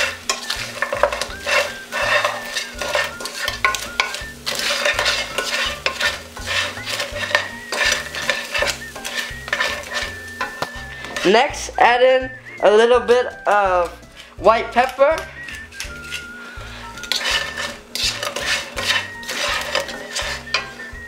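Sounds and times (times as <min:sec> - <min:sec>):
spatula scraping and knocking pan: 0:00.0 - 0:11.6, 0:13.3 - 0:21.0
light oil sizzling: 0:00.0 - 0:11.8, 0:13.2 - 0:21.0.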